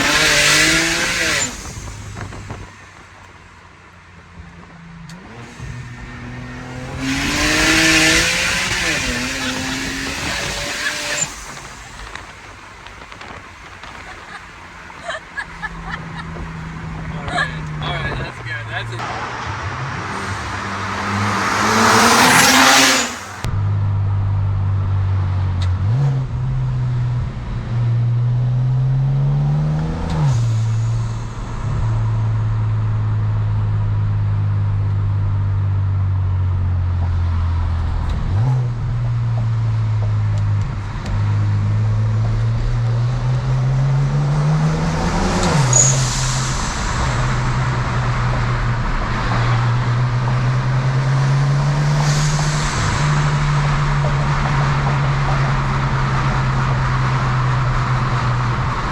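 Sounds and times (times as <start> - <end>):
car engine accelerating through gears: 0.0 - 3.4, 4.0 - 58.9.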